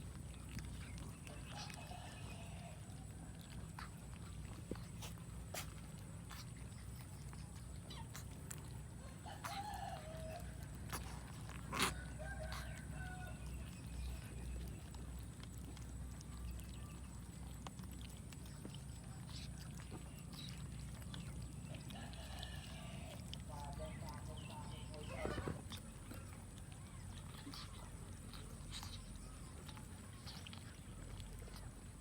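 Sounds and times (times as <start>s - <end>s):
cats chewing food: 0.0s - 32.0s.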